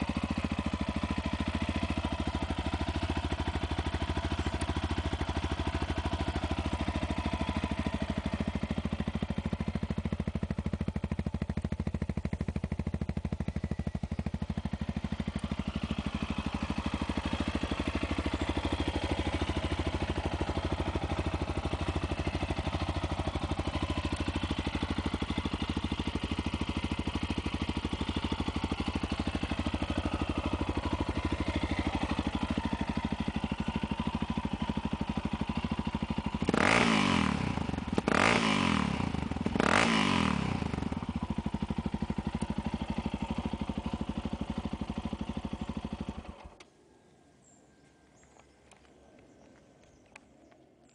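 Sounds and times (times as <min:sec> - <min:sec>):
motorcycle engine revving: 0:00.0 - 0:46.7
motorcycle engine idling: 0:00.0 - 0:50.9.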